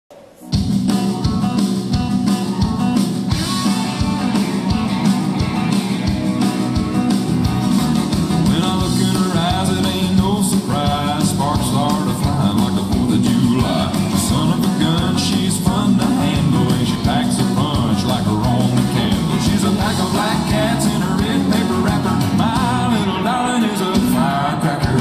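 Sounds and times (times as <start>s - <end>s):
song with beat and singing: 0.1s - 25.0s.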